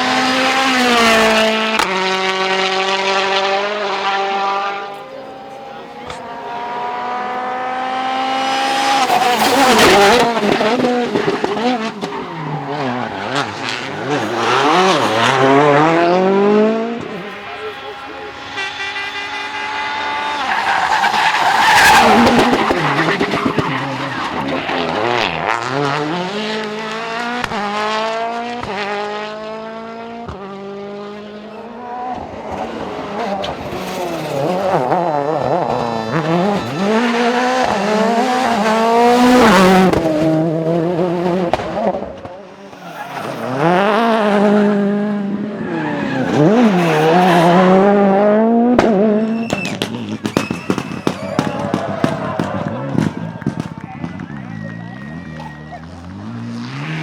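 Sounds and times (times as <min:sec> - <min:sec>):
rally car engines at full throttle: 0:00.0 - 0:57.0.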